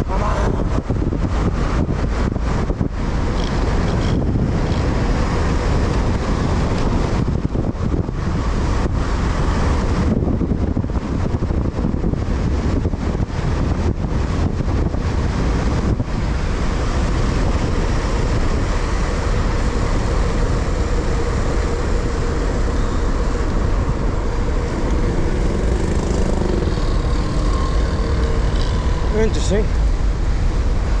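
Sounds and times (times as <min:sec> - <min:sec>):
road and traffic noise: 0:00.0 - 0:31.0
wind rushing over microphone: 0:00.0 - 0:31.0.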